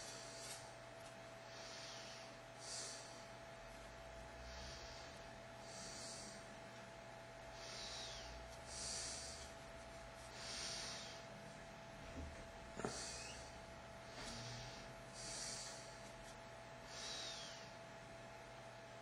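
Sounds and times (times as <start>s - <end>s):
person breathing slowly: 0.0s - 0.8s, 1.4s - 6.7s, 7.4s - 11.6s, 12.8s - 17.8s
faint steady hum: 0.0s - 19.0s.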